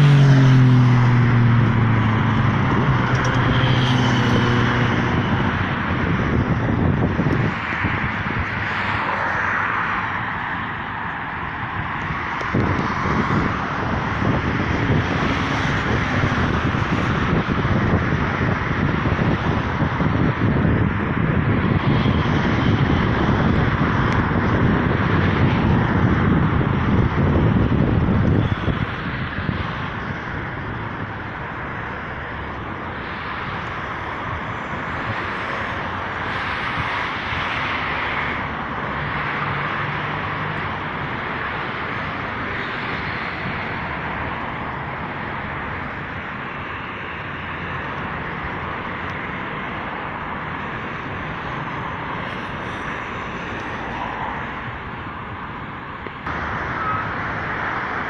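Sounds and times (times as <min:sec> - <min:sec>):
road traffic on a bridge: 0:00.0 - 0:58.0.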